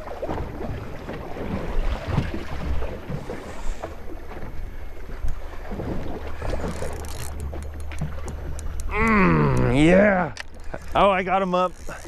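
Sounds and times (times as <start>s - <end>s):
water splashing against hull: 0.0s - 12.0s.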